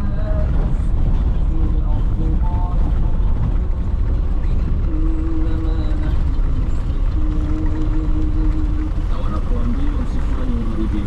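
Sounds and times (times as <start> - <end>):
droning tone: 0.0 - 11.0
traffic rumble: 0.0 - 11.0.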